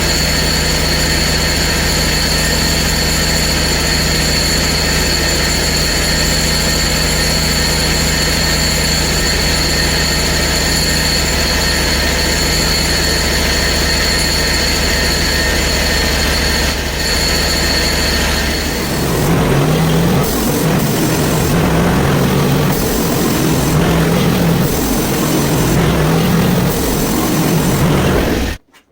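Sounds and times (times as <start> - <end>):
saw blade whining through log: 0.0 - 28.6
sawmill engine running: 0.0 - 28.6.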